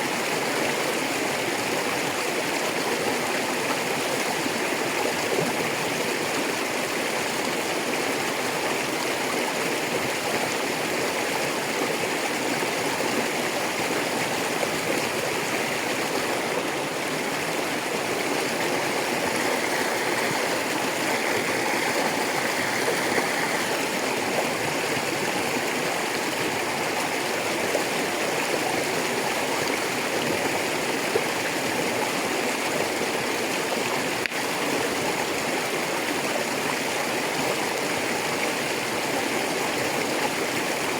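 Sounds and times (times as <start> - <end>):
river rushing over stones: 0.0 - 40.9.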